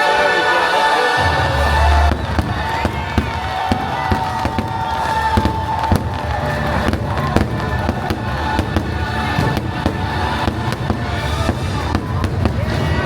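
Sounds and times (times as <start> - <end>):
music over loudspeakers: 0.0 - 13.0
fireworks banging: 1.3 - 13.0.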